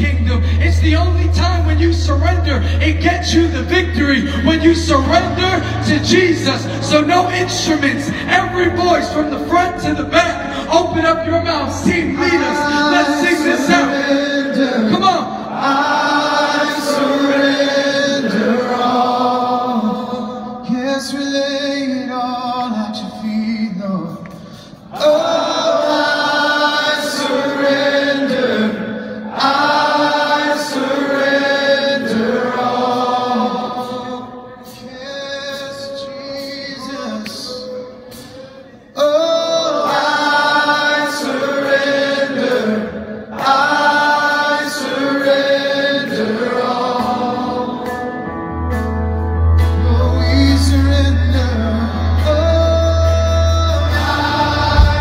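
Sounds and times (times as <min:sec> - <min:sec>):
congregation singing unaccompanied: 0:03.3 - 0:21.1, 0:24.9 - 0:48.4, 0:49.8 - 0:55.0.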